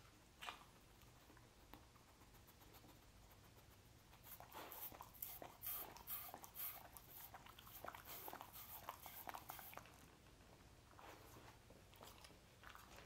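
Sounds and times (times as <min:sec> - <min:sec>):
dog eating with mouth smacks: 0:00.3 - 0:13.0.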